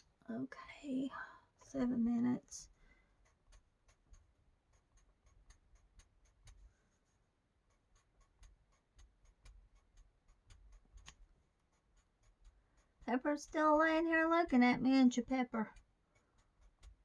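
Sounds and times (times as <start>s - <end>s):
marker ticking on paper: 1.6s - 6.8s, 7.6s - 17.0s.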